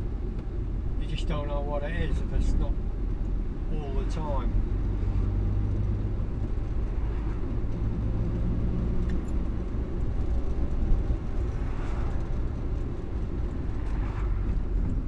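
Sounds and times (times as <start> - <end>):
car engine running: 0.0 - 15.0
road noise: 0.0 - 15.0.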